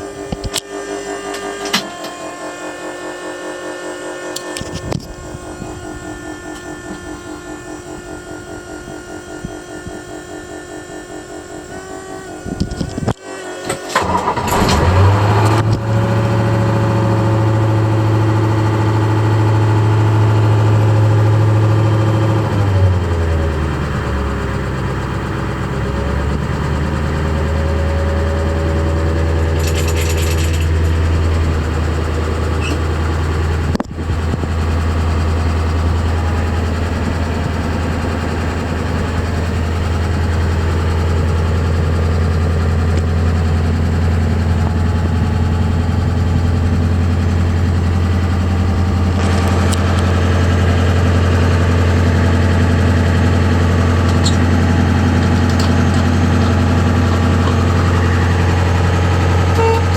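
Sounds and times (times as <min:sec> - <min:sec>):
truck engine cold start and idling: 0:00.0 - 0:59.9.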